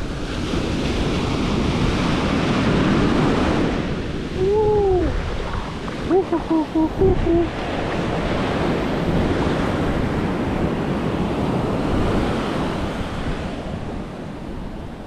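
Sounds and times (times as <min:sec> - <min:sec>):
surf washing over sand: 0:00.0 - 0:15.0
wind buffeting microphone: 0:00.0 - 0:15.0.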